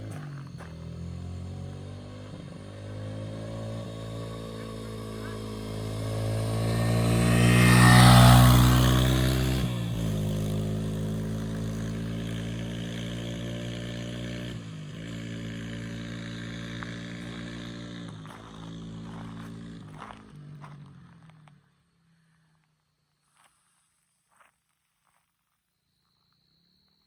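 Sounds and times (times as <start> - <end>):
motorcycle passing by: 0.0 - 22.6.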